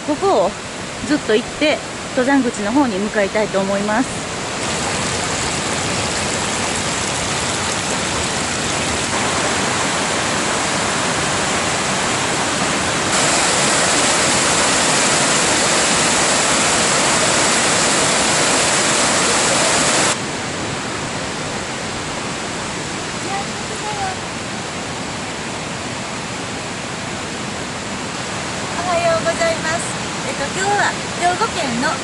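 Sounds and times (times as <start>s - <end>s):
rushing stream and waterfall: 0.0s - 32.0s.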